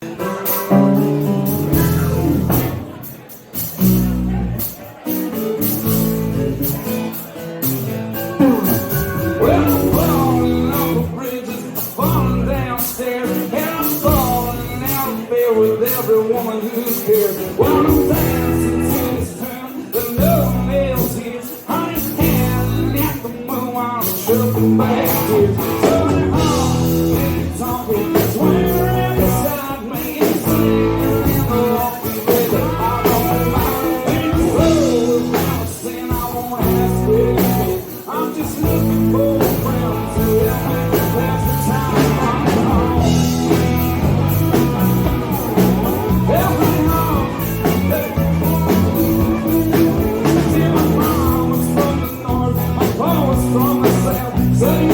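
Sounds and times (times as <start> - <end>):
guitar: 0.0 - 54.9
live rock and roll song: 0.0 - 54.9
person singing: 8.2 - 54.9.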